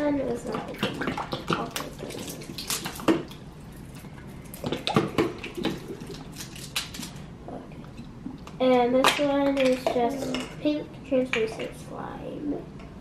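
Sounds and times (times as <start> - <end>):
slime squelching: 0.0 - 11.8.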